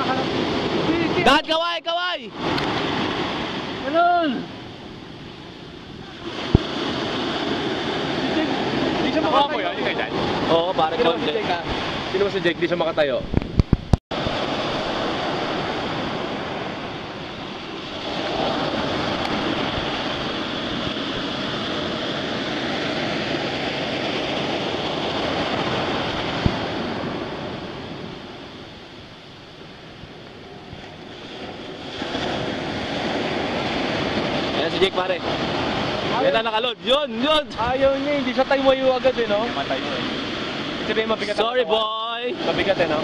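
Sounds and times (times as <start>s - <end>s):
ocean surf breaking on beach: 0.0s - 43.0s.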